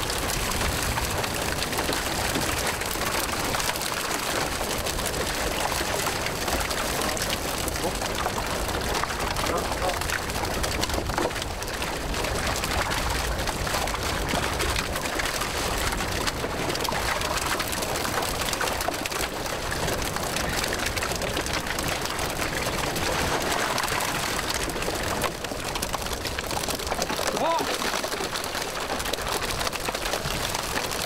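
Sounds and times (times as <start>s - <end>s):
fish flapping and slapping: 0.0s - 31.0s
water splashing: 0.0s - 31.0s.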